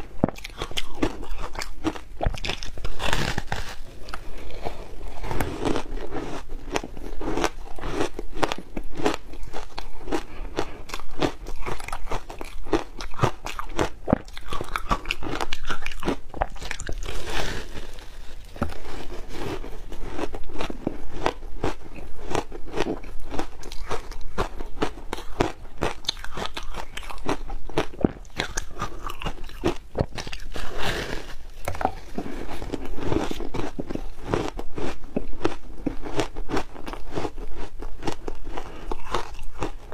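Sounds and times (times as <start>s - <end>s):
crunching shaved ice: 0.4s - 39.9s.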